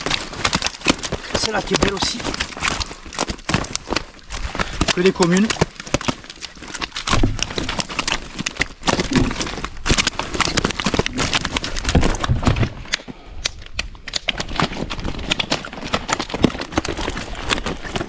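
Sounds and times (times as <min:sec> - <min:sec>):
fish flapping in a net: 0:00.0 - 0:18.0.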